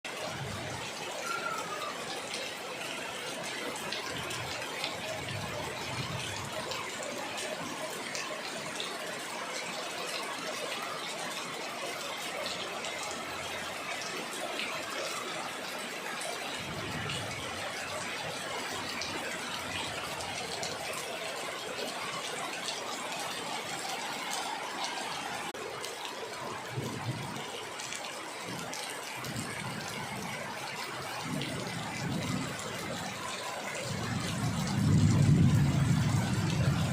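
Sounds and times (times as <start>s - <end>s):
heavy rain falling: 0.1s - 36.9s.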